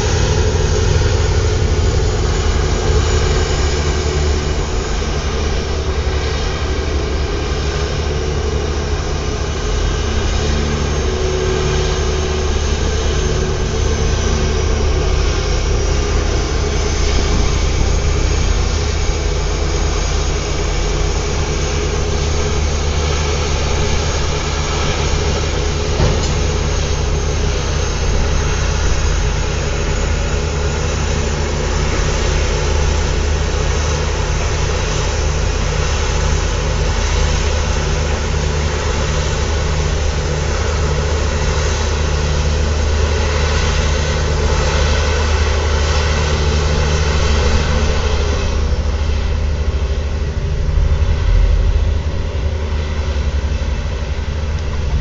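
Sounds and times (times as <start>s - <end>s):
crane engine droning: 0.0s - 55.0s.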